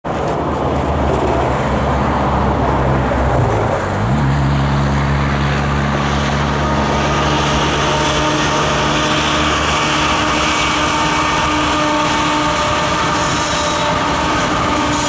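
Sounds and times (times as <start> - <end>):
locomotive engines droning: 0.0 - 15.0.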